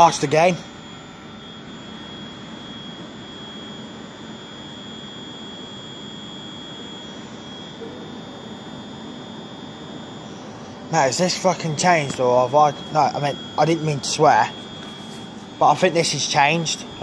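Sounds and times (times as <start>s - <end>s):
thin high whine: 0.0s - 17.0s.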